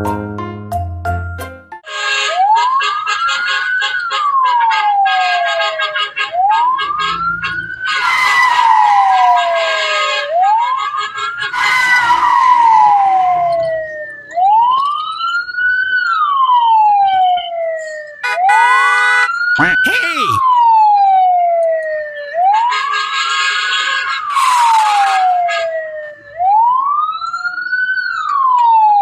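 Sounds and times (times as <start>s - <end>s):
wailing siren: 1.9s - 29.0s.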